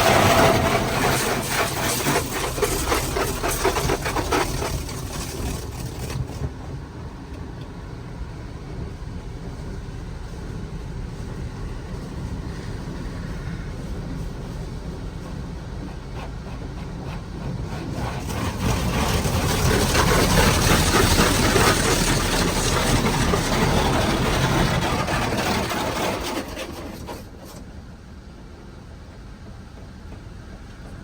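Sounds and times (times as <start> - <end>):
car wash machinery rumble: 0.0 - 31.0.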